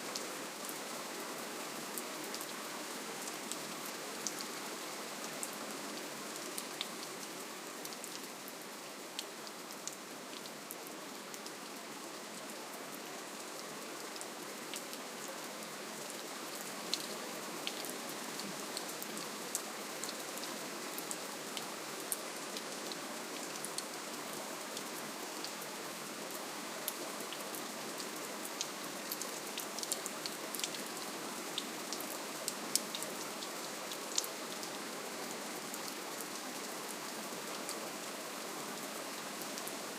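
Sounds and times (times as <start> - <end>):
rain hissing and pattering: 0.0 - 39.9.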